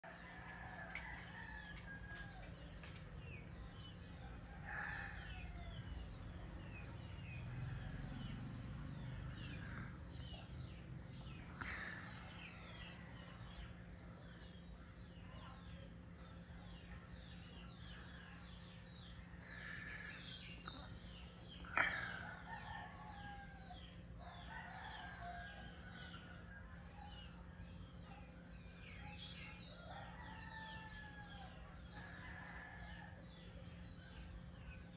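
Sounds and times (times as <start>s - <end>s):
distant roosters crowing: 0.0s - 34.9s
steady high-pitched hum: 0.0s - 34.9s.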